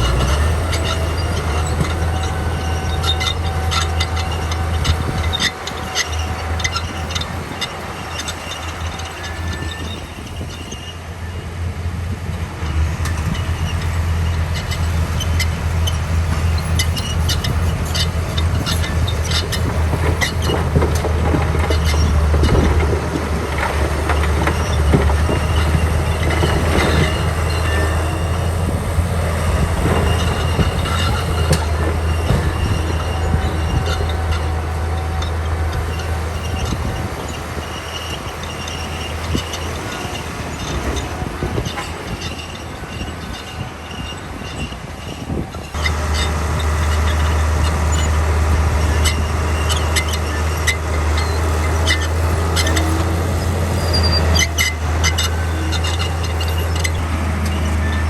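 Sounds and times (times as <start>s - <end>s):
bulldozer diesel engine rumbling: 0.0s - 58.0s
steel tracks clanking and squeaking: 0.0s - 58.0s.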